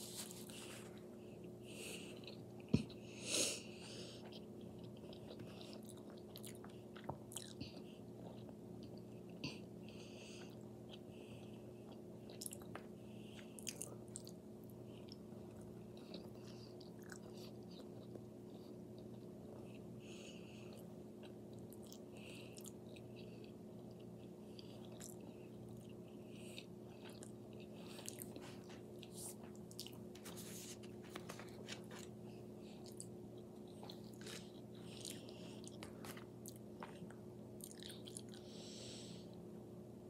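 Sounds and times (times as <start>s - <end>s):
person chewing food: 0.0s - 3.2s, 3.8s - 39.2s.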